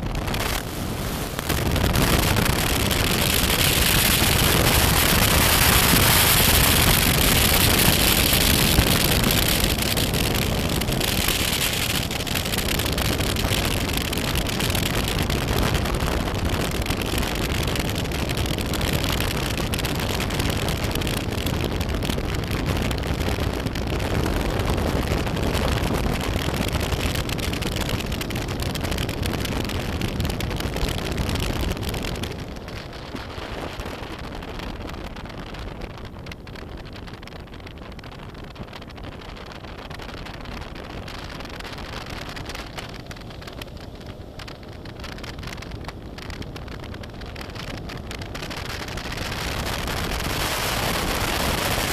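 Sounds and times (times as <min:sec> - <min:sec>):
motorcycle engine and tyre noise: 0:00.0 - 0:51.9
wind rushing over microphone: 0:00.0 - 0:51.9.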